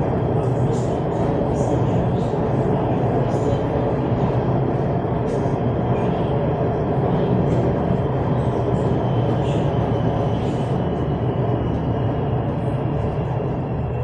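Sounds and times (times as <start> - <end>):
metro train rumbling: 0.0 - 14.0.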